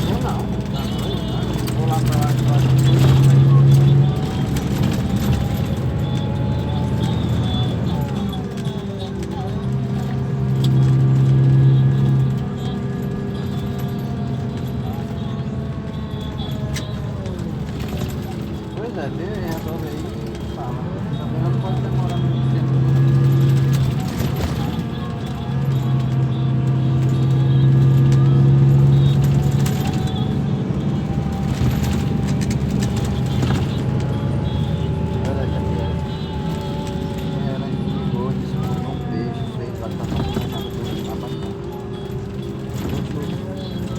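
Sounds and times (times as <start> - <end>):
bus engine humming: 0.0 - 43.9.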